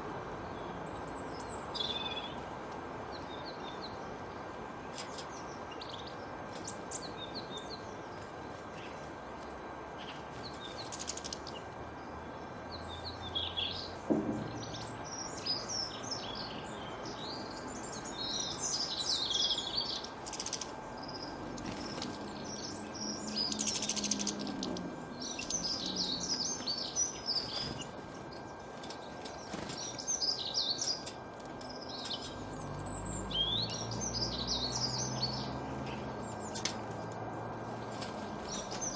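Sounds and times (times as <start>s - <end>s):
songbirds chirping and twittering: 0.0s - 38.9s
steady background hiss: 0.0s - 38.9s.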